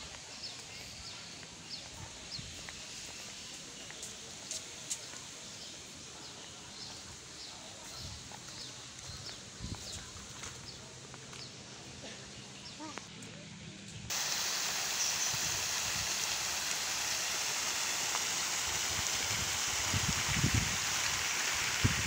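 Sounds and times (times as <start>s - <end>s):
open-air background noise: 0.0s - 22.0s.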